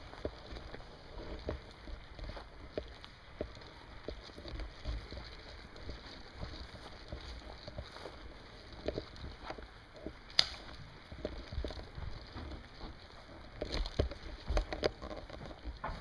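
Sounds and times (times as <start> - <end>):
low rumble of handling noise: 0.0 - 16.0.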